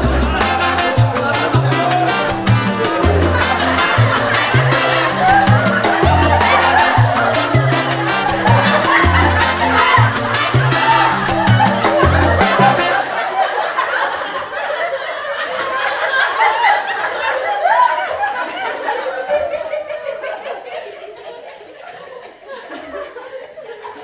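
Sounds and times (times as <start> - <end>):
people laughing: 0.0 - 24.0.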